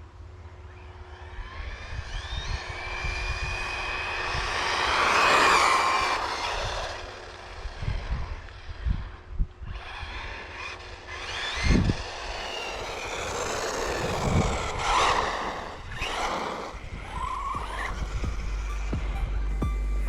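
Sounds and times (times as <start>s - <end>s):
toy car electric motor whining: 0.8s - 19.4s
wind rumbling on microphone: 1.3s - 19.8s.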